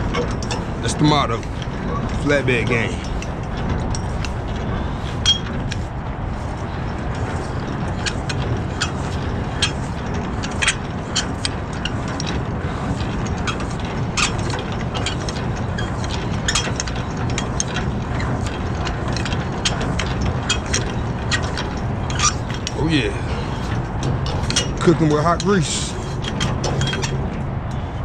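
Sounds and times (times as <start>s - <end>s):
crank clicks and clanks: 0.0s - 28.0s
steady low rumble: 0.0s - 28.0s.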